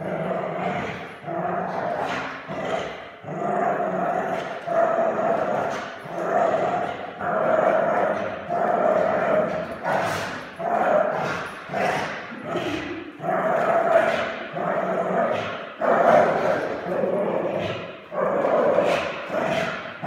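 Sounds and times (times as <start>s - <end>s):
dog play-growling: 0.0s - 20.0s.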